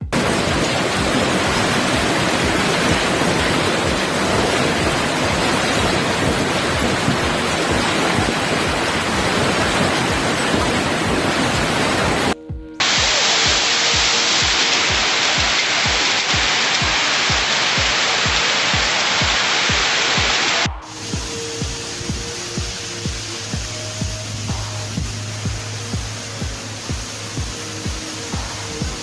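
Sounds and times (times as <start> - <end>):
heavy rain downpour: 0.0 - 29.0.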